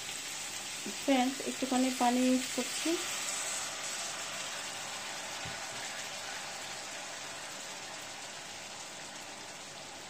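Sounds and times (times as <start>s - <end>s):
meat and spice paste sizzling in pan: 0.0s - 10.0s
water poured into hot pan: 0.0s - 10.0s.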